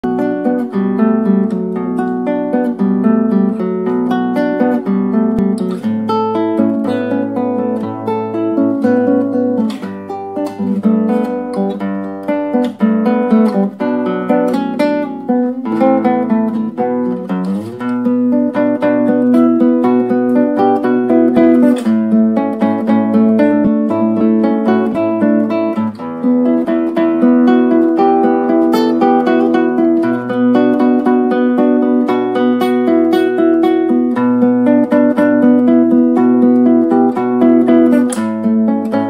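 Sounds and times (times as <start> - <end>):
acoustic guitar melody: 0.0 - 39.0.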